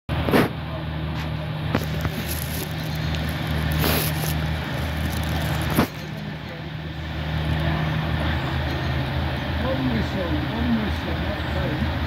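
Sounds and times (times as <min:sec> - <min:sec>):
diesel train engine drone: 0:00.1 - 0:12.0.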